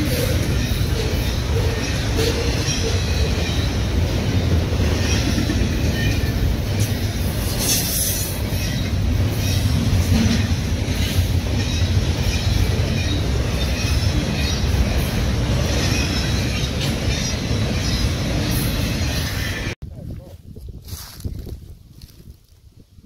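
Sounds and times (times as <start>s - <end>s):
train rumbling on rails: 0.0s - 19.8s.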